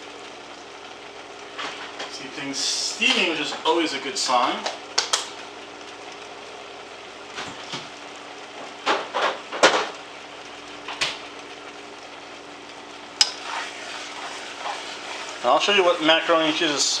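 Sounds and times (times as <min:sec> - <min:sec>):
pots hissing and humming: 0:00.0 - 0:17.0.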